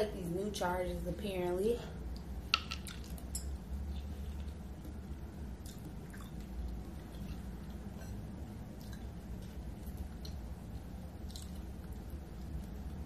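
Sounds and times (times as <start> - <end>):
steady low hum: 0.0 - 13.0
person chewing food: 2.1 - 13.0.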